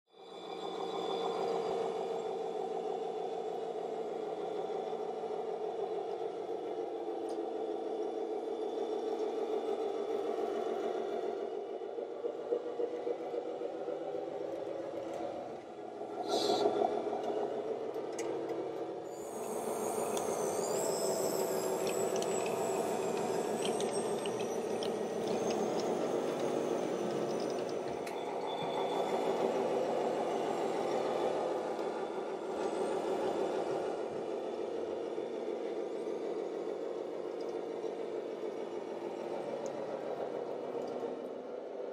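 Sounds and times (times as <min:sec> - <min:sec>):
model truck engines droning: 0:00.1 - 0:41.9
high wavering whine: 0:00.2 - 0:36.9.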